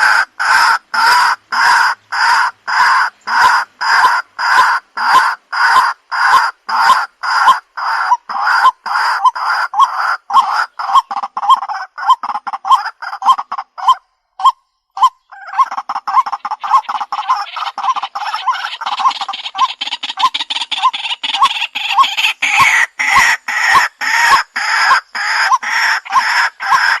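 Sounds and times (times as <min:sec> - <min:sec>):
waterhen croaking calls: 0:00.0 - 0:27.0.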